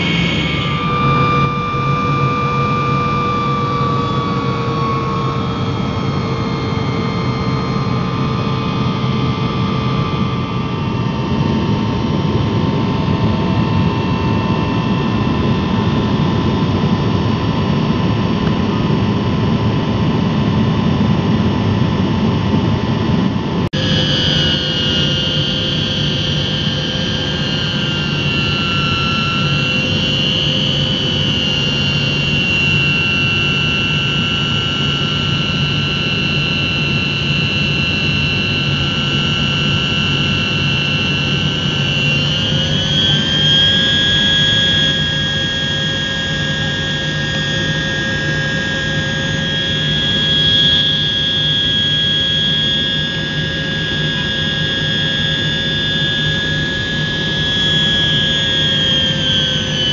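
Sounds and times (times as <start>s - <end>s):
jet engines rumble and whine: 0.0s - 59.9s.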